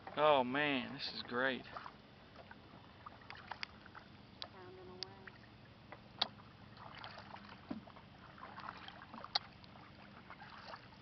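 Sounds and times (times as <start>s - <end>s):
paddle swishing in water: 0.0s - 11.0s.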